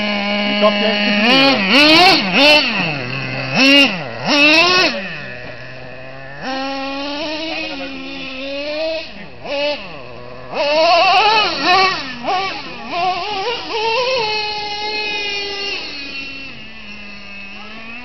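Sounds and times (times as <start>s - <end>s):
nitro engine revving: 0.0s - 18.0s.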